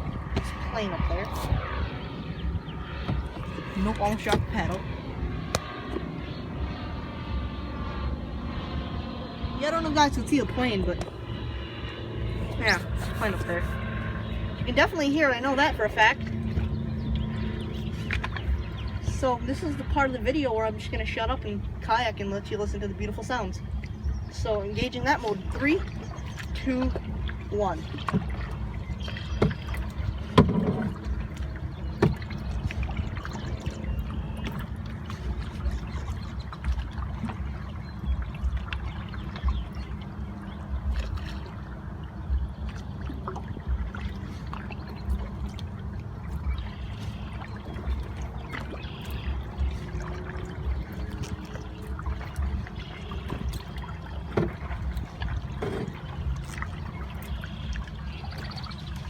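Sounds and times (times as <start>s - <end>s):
paddle splashing water: 0.0s - 59.0s
wind on microphone: 0.0s - 59.0s.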